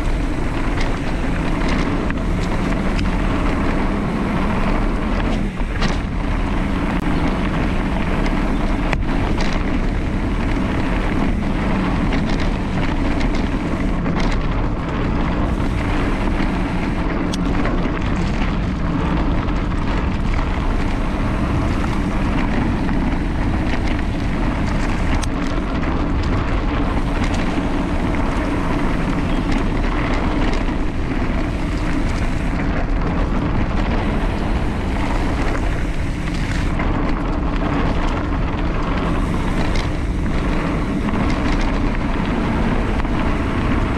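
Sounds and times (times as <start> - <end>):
bike rolling and rattling: 0.0 - 43.9
wind buffeting microphone: 0.0 - 43.9.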